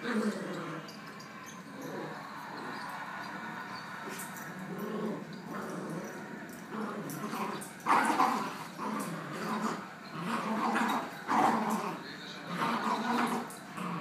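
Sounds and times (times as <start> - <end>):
dog growling: 0.0 - 2.8, 4.0 - 14.0.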